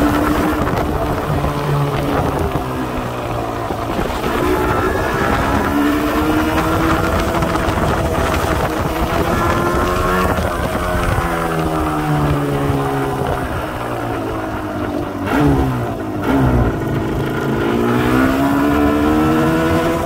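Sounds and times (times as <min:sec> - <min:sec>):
motorcycle engine pulling: 0:00.0 - 0:20.0.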